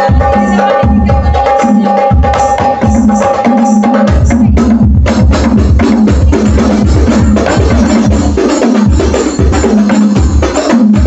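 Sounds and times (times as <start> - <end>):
percussion-heavy music with bass: 0.0 - 11.0.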